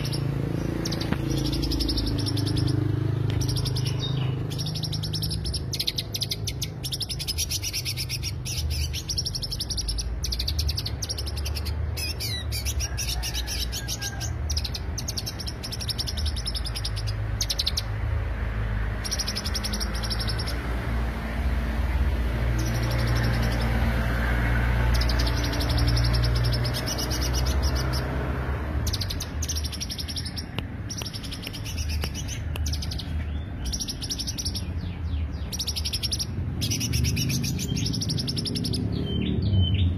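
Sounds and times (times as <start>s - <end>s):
bird singing chattering notes: 0.0s - 18.1s, 18.9s - 20.8s, 22.5s - 24.0s, 24.7s - 39.9s.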